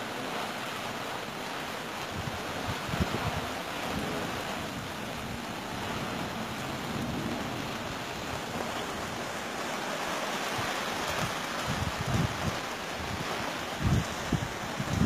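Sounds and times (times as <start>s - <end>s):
rain shower: 0.0s - 15.0s
wind through trees: 0.0s - 15.0s.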